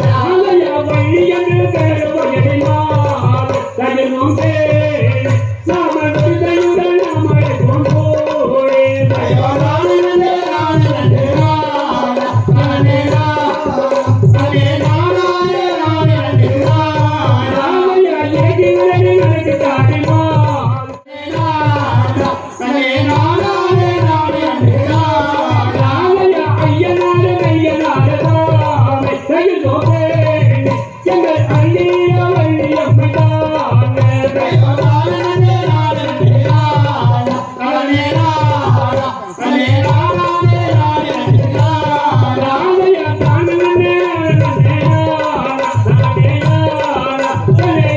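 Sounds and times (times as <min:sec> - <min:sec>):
drum beating steady rhythm: 0:00.0 - 0:47.9
person singing folk song: 0:00.0 - 0:47.9.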